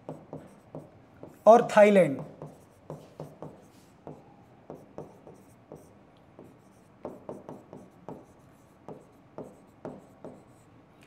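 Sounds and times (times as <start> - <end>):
pen tapping and scratching on screen: 0.0 - 10.6.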